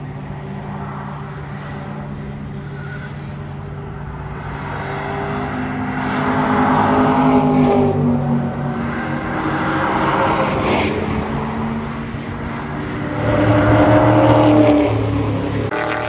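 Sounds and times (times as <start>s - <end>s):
car engine at speed: 0.0s - 16.0s.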